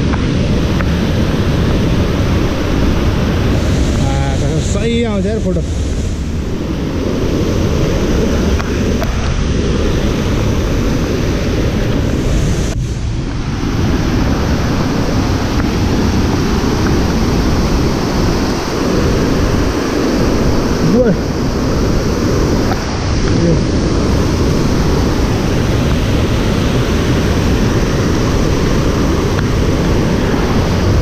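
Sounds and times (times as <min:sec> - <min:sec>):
water rushing over boulders: 0:00.0 - 0:31.0.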